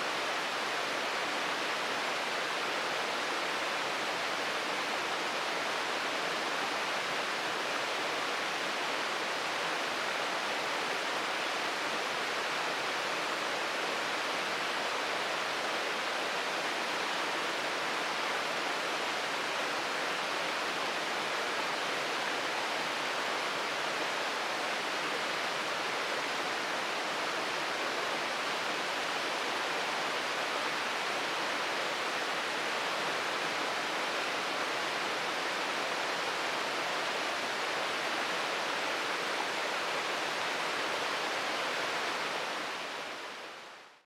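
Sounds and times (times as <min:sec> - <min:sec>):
waterfall rushing: 0:00.0 - 0:43.7.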